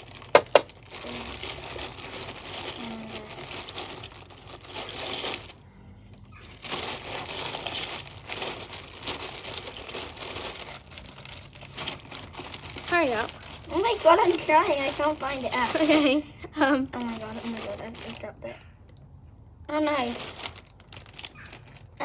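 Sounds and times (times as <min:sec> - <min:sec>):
rustling and crinkling of toys: 0:00.0 - 0:19.0, 0:19.7 - 0:22.0.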